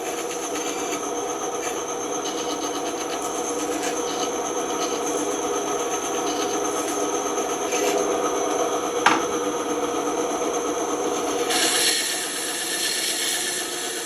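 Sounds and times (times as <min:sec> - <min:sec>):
band saw cutting wood: 0:00.0 - 0:09.5, 0:11.0 - 0:14.0.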